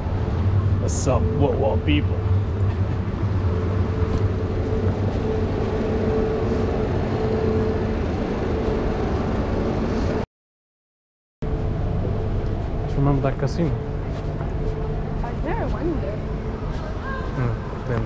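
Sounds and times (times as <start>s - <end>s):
passing traffic rumble: 0.0s - 10.2s, 11.4s - 18.0s.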